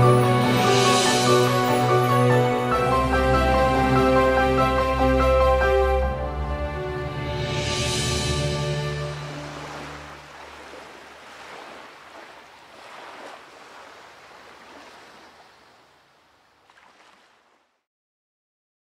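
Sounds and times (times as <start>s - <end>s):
sea waves: 0.0s - 17.8s.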